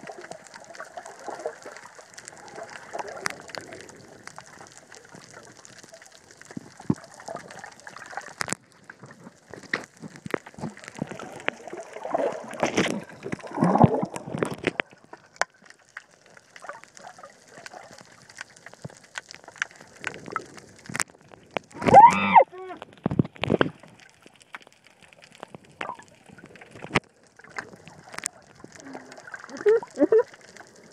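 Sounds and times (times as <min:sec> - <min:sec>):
water sloshing and gurgling: 0:00.0 - 0:30.9.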